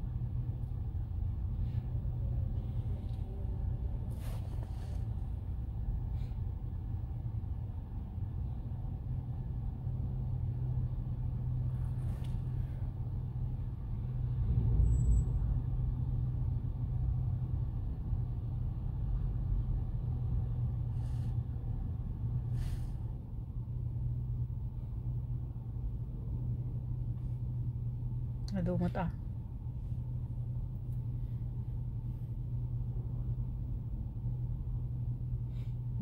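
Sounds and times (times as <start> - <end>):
car rumbling low: 0.0 - 36.0.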